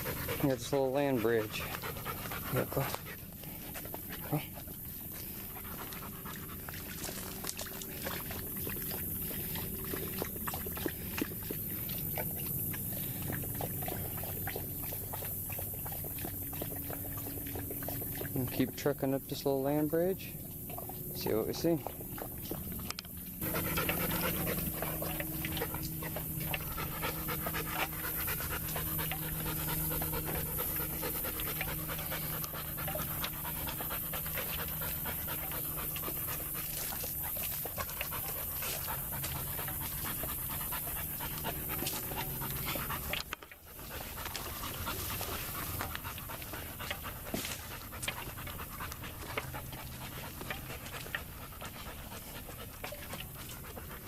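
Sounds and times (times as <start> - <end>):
dog panting: 0.0 - 54.0.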